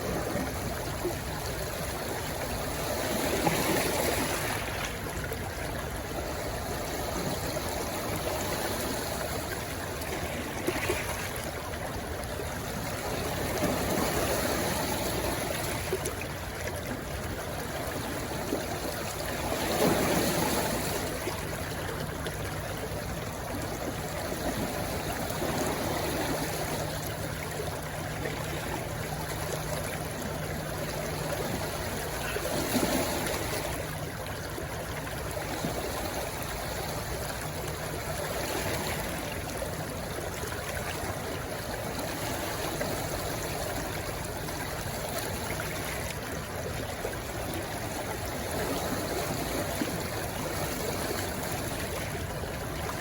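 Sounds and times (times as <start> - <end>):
stream rushing and trickling: 0.0 - 53.0.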